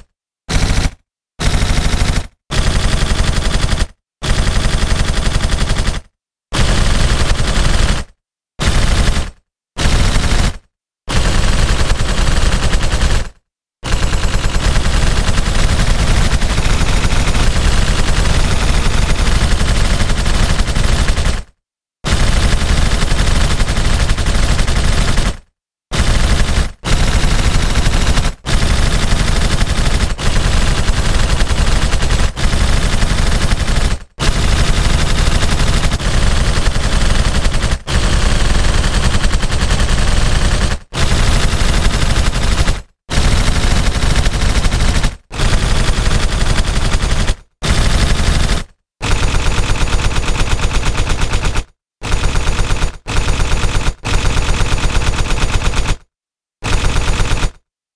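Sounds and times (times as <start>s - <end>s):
machine-gun bursts: 0.0s - 57.6s.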